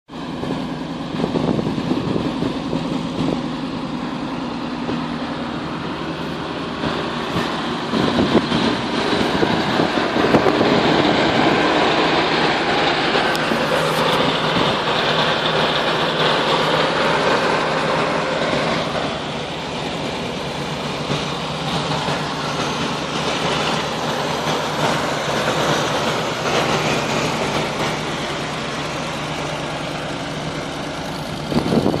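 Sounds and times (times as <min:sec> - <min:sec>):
car engine idling: 0:00.1 - 0:32.0.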